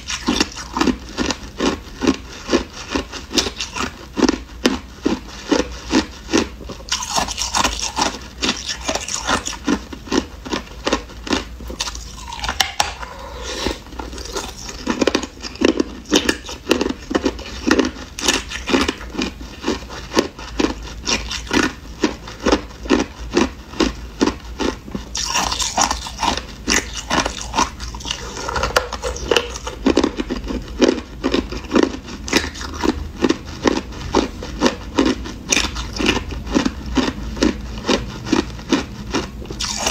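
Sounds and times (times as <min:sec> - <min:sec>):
ice being chewed and crunched: 0:00.0 - 0:39.9.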